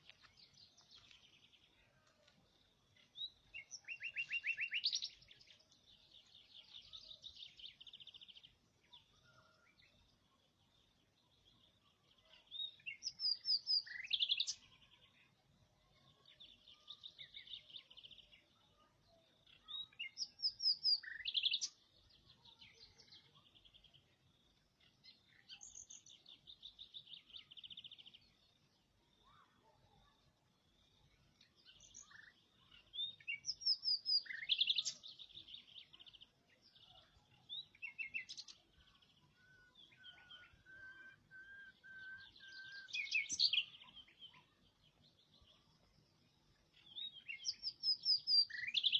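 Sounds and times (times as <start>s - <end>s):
songbird trilling and chirping: 0.0s - 24.2s, 24.8s - 48.9s.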